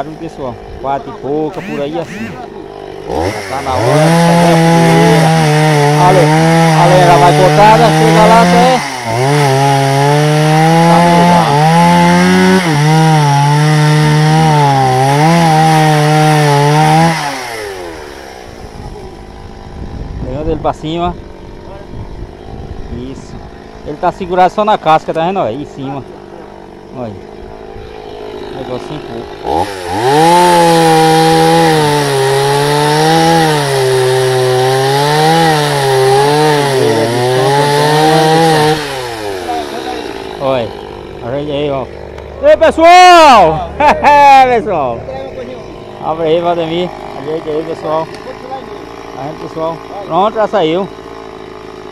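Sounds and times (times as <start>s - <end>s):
chainsaw cutting through log: 0.0s - 51.9s.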